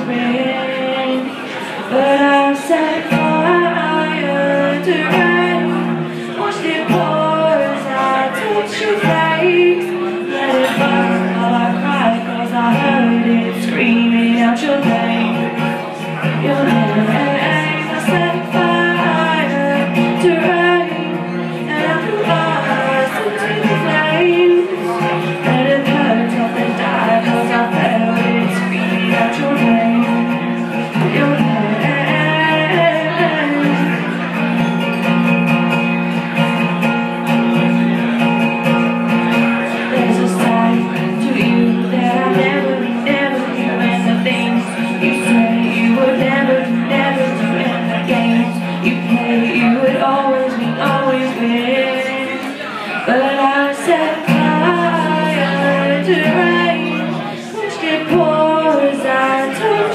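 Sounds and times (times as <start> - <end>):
woman singing: 0.0 - 34.4, 39.6 - 59.9
acoustic guitar strumming: 0.0 - 59.9.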